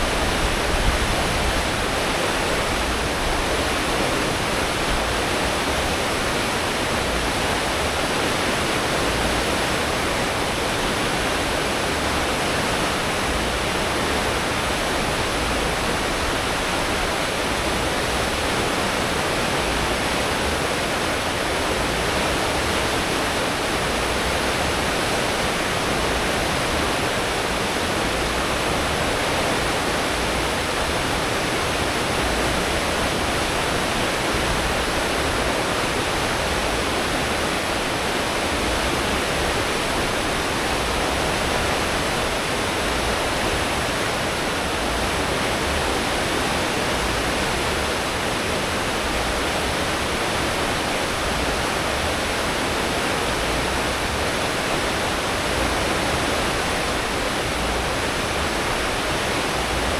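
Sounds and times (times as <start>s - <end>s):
wake water rushing: 0.0s - 59.9s.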